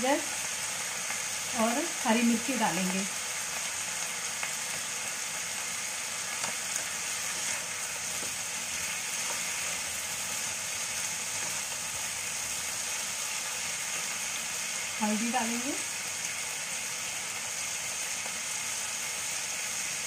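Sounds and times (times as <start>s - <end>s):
potatoes sizzling in oil: 0.0s - 20.0s.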